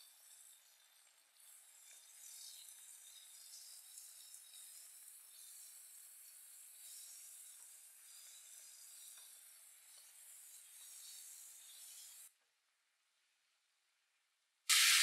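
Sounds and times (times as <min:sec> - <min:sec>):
faint sizzling of frying food: 0:00.0 - 0:12.4, 0:14.7 - 0:15.0.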